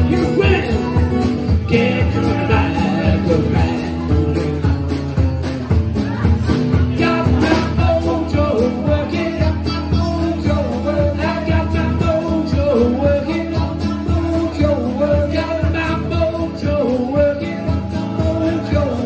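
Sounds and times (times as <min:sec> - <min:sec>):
man singing into microphone: 0:00.0 - 0:04.6, 0:06.8 - 0:19.0
drum kit beat: 0:00.0 - 0:19.0
strummed acoustic guitar: 0:00.0 - 0:19.0.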